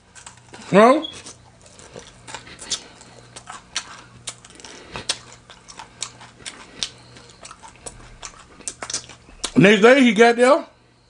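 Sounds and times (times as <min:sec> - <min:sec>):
chewing crunches: 0:00.0 - 0:09.6
faint steady hum: 0:00.0 - 0:11.0.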